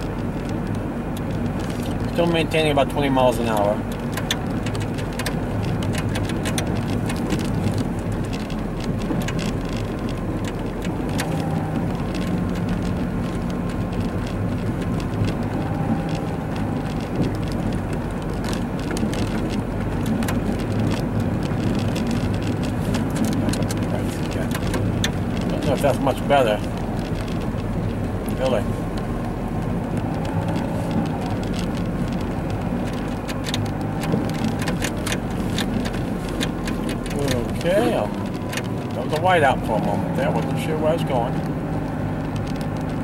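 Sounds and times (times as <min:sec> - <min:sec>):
car interior rumble: 0:00.0 - 0:43.0
snow ticking on car: 0:00.0 - 0:43.0.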